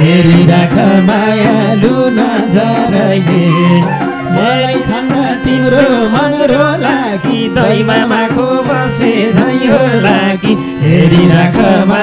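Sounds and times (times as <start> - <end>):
hand drums beating: 0.0 - 12.0
harmonium melody: 0.0 - 12.0.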